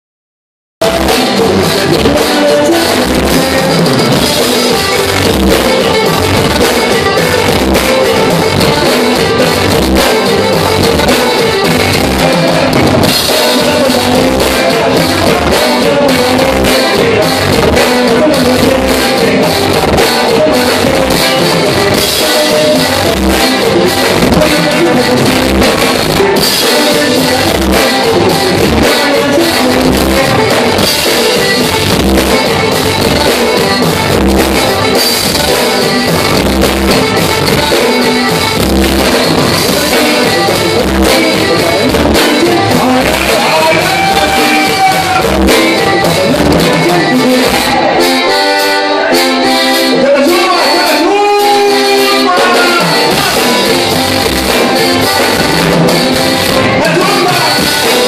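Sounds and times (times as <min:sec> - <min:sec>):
drum kit steady beat: 0:00.8 - 0:58.0
electric bass guitar: 0:00.8 - 0:58.0
live band playing dance music: 0:00.8 - 0:58.0.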